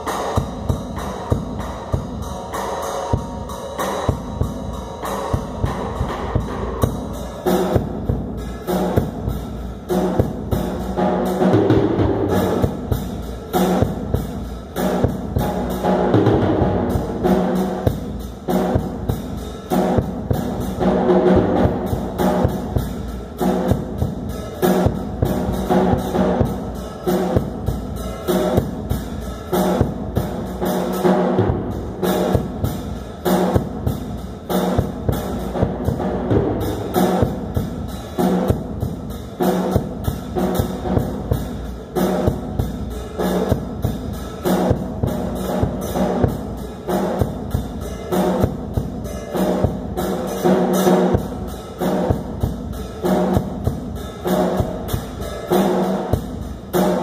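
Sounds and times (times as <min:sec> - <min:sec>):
drum kit beat: 0:00.0 - 0:57.0.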